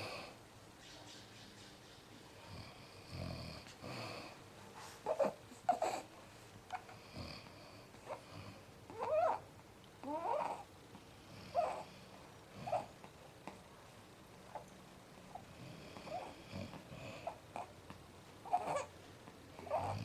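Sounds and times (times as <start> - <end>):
soft rasping snoring breaths: 2.4 - 9.4, 10.0 - 20.0.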